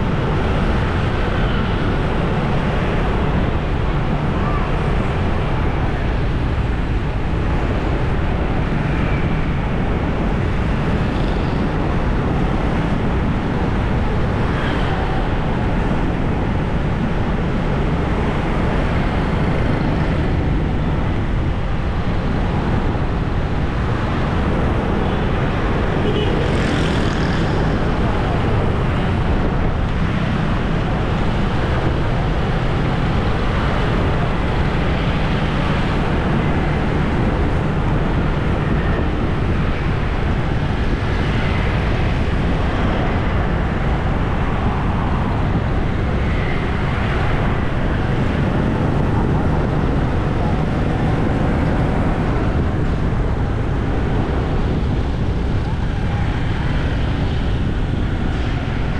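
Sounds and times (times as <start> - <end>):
engine and wind rumble: 0.0 - 58.9
road and traffic noise: 0.0 - 58.9.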